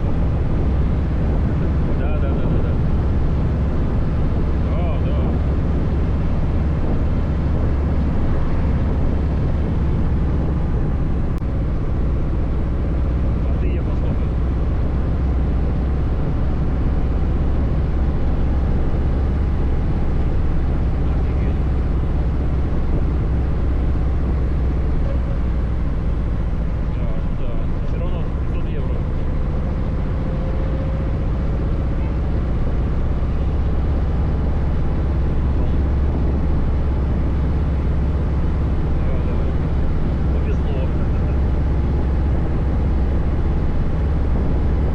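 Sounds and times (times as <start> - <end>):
wind noise on microphone: 0.0 - 13.4, 14.1 - 44.9
motorcycle engine running: 0.0 - 44.9.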